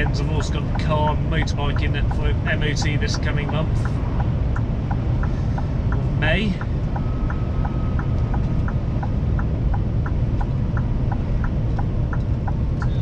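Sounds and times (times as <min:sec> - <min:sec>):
light regular ticking: 0:00.0 - 0:13.0
lorry engine and road drone: 0:00.0 - 0:13.0.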